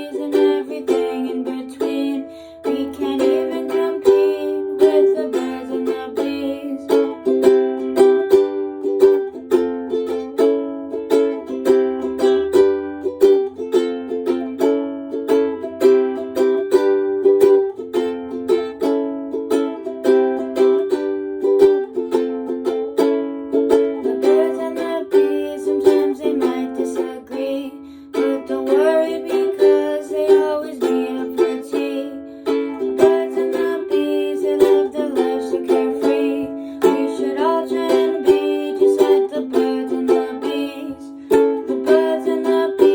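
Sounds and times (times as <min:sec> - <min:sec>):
ukulele plucking: 0:00.0 - 0:42.9.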